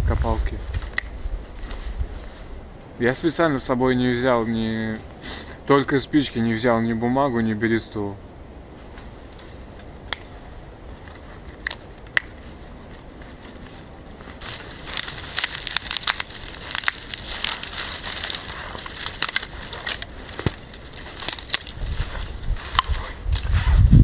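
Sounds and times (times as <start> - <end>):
dry grass crackling: 0.3 - 5.4, 8.4 - 24.0.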